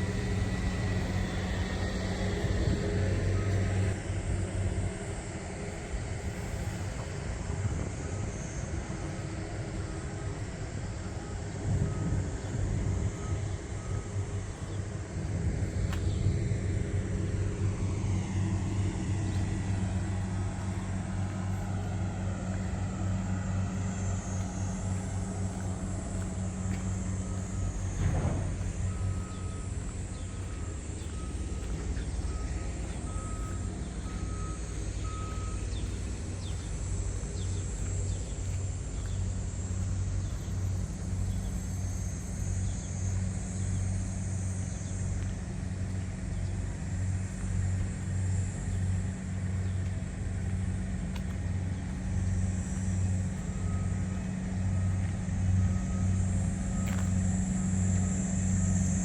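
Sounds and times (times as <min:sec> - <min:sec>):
harvester engine running: 0:00.0 - 0:59.0.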